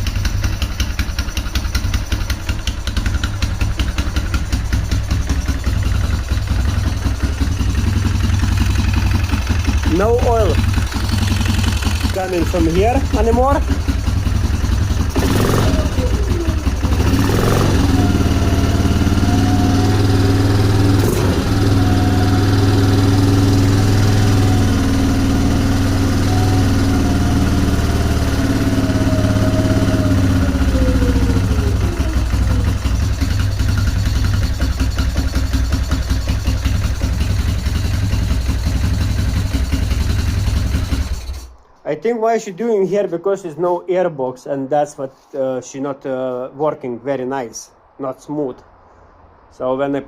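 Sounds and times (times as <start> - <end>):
quad engine running unevenly: 0.0 - 41.5.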